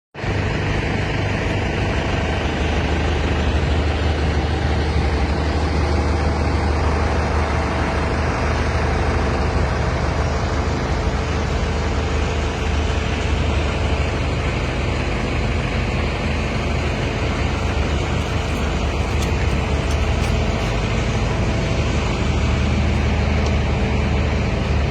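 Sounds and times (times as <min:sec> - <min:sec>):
diesel truck engine running: 0:00.2 - 0:24.9.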